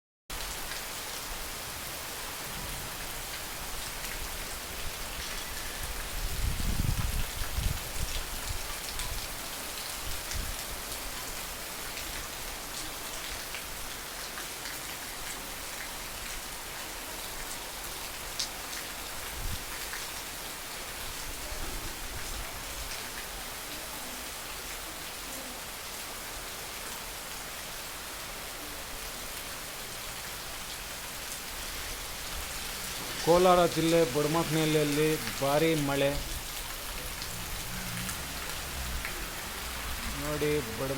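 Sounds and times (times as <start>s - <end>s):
heavy rain falling: 0.3s - 40.9s.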